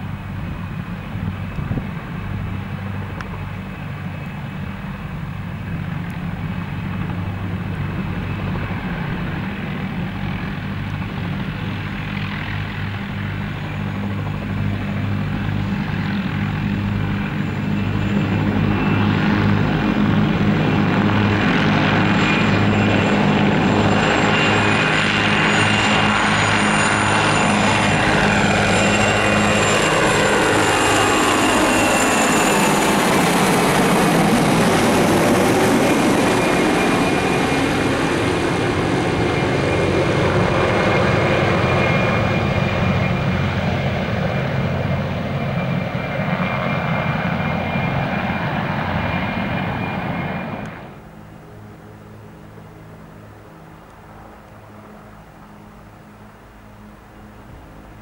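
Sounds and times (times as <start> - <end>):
helicopters flying overhead: 0.0 - 58.0.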